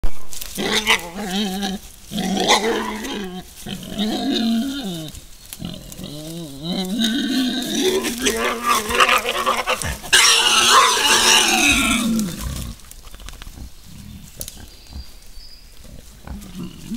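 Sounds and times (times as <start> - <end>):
wild boars calling: 0.3 - 16.9.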